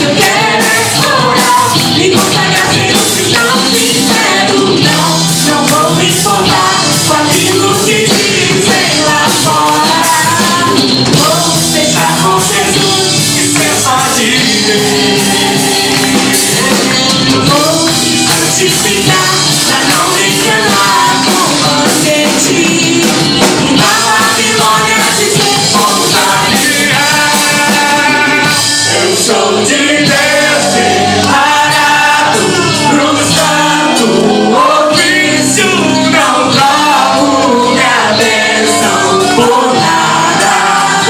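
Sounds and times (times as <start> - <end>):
worship song with band: 0.0 - 41.0.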